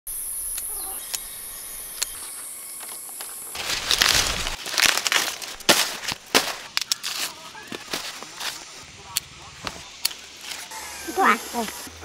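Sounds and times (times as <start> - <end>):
high-pitched hiss: 0.1 - 4.6, 6.2 - 12.0
leafy plants rustling and crackling: 0.6 - 12.0.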